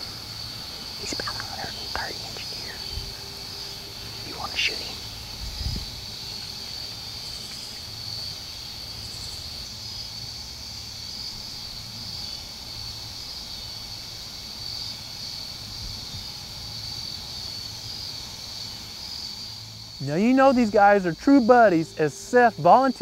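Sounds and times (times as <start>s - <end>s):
crickets trilling: 0.0s - 23.0s
faint low hum: 0.0s - 23.0s.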